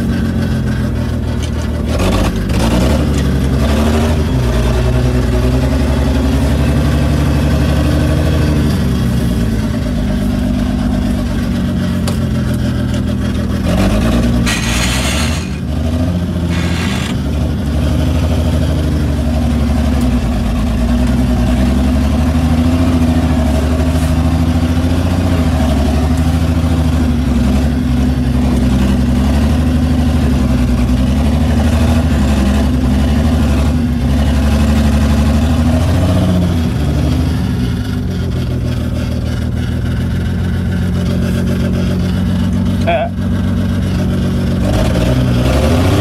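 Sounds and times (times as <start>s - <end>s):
pickup truck engine running: 0.0s - 46.0s.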